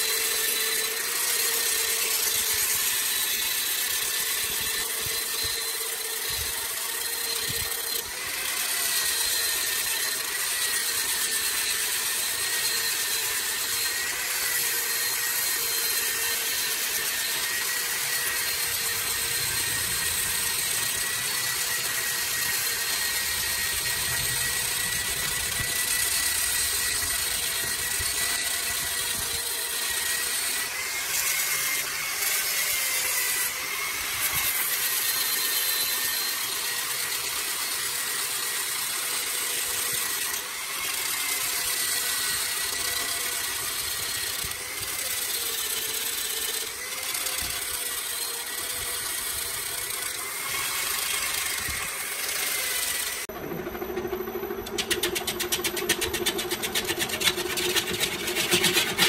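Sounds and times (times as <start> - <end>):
angle grinder motor whine: 0.0 - 59.0.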